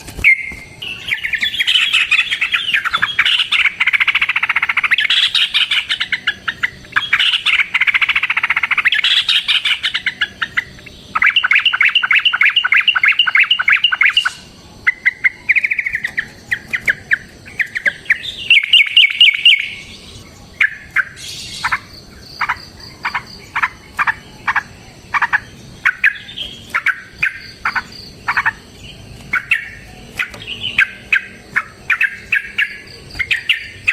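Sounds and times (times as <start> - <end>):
bird singing and trilling: 0.0 - 33.9.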